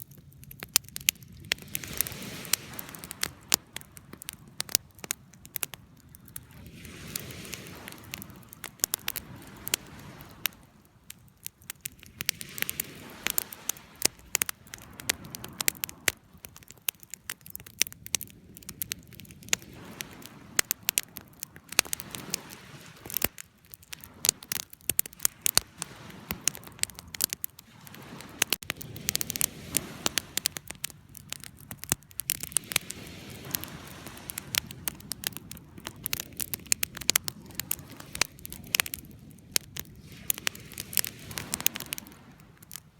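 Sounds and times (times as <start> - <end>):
wood fire crackling and popping: 0.0 - 42.9
low rush of burning: 0.4 - 42.9.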